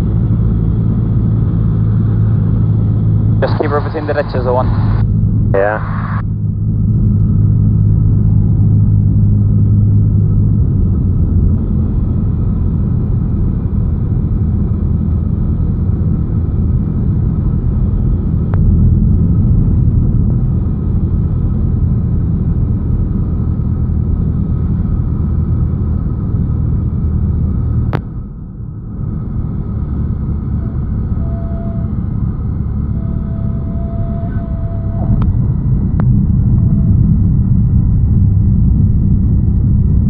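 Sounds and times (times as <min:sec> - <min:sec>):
propeller plane engine droning: 0:00.0 - 0:40.0.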